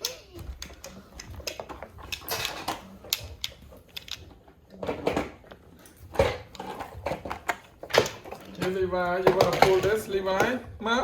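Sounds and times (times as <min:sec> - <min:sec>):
plastic toy cars clattering: 0:00.0 - 0:10.6.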